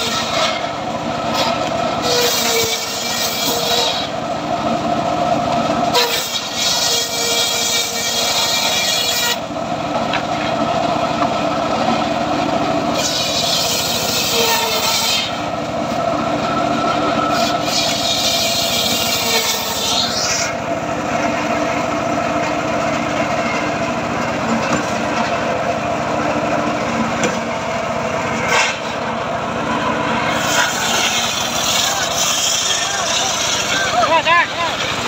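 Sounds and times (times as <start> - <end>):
saw blade cutting log: 0.0 - 4.3, 5.8 - 35.0
engine-driven circular saw running: 0.0 - 35.0.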